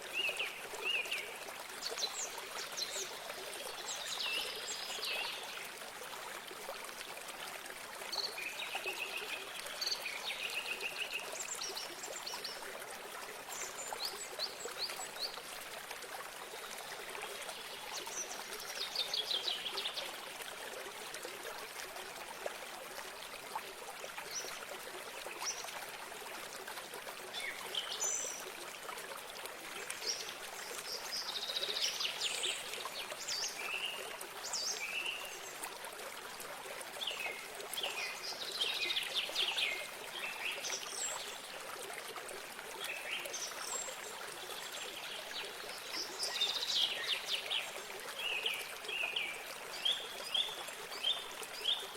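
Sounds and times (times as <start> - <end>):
stream trickling: 0.0 - 51.9.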